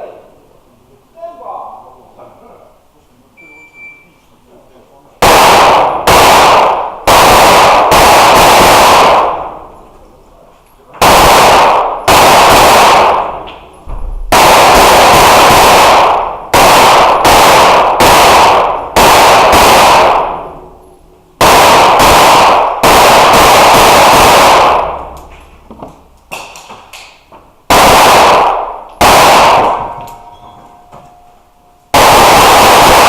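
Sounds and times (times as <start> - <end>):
pistol shots echoing indoors: 5.2 - 9.9, 11.0 - 33.0.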